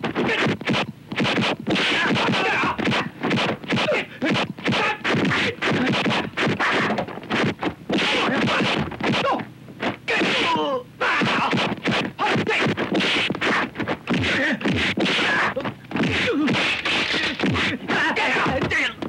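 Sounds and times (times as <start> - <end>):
punch and kick whacks: 0.0 - 10.6, 11.2 - 17.8
fighters shouting and grunting: 0.2 - 0.6, 1.7 - 7.1, 7.9 - 19.0.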